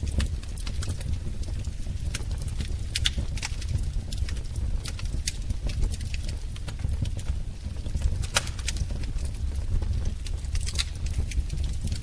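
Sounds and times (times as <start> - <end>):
low rumble of flames: 0.0 - 12.0
wood fire crackling and popping: 0.0 - 12.0.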